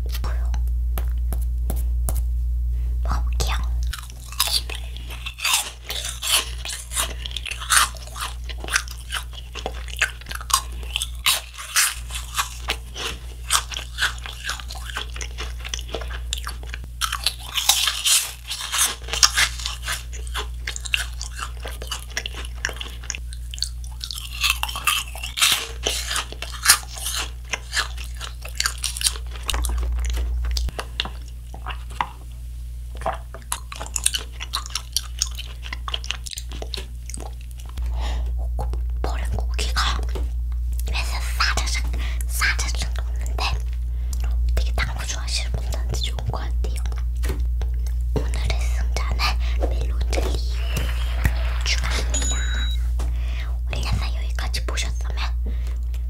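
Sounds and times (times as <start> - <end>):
crunching and chewing cookies: 3.1 - 56.0.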